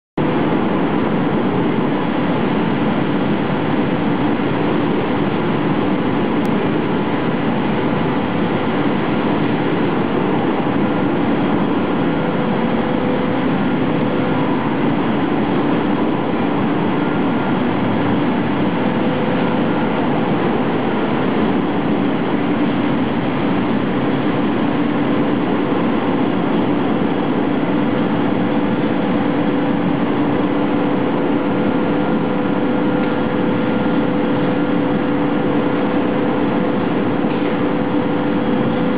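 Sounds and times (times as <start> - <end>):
industrial machine running: 0.2 - 38.9.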